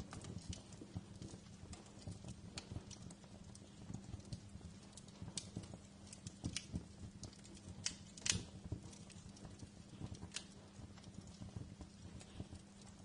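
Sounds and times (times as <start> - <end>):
faint low hum: 0.0 - 13.0
wood fire crackling and popping: 0.0 - 13.0.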